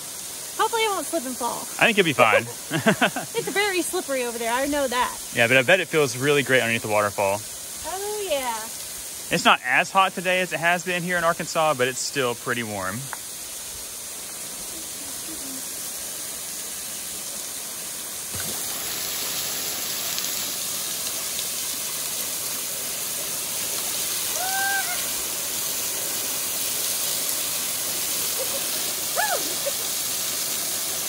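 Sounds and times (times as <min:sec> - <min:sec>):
waterfall splashing onto rocks: 0:00.0 - 0:31.0.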